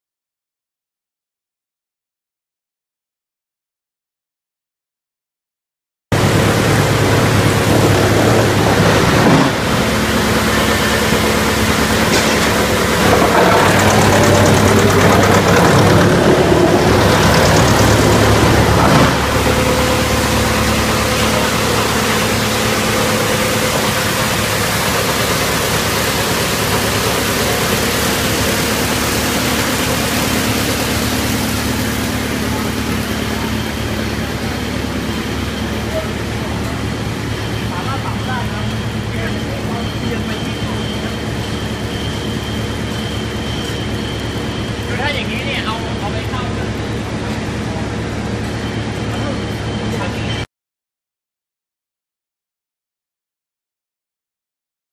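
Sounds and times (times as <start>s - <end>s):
wood chipper running: 6.1s - 50.3s.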